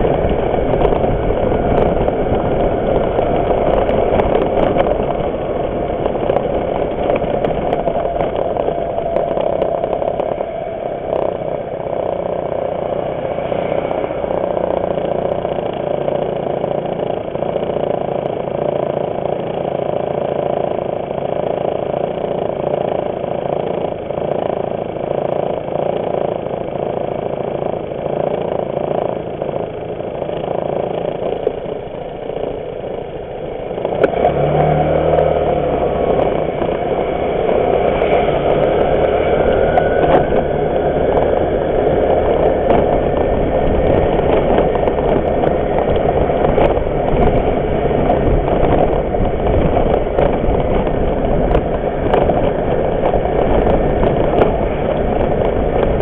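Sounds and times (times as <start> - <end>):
scooter engine running: 0.0 - 56.0
wind and road noise: 0.0 - 56.0.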